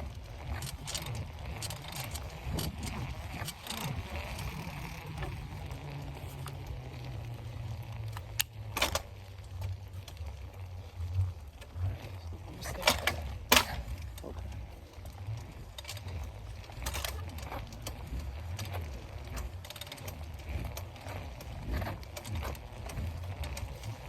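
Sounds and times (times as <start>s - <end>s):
bicycle clicks and rattles: 0.0s - 24.0s
bicycle wind and rolling rumble: 0.0s - 24.0s.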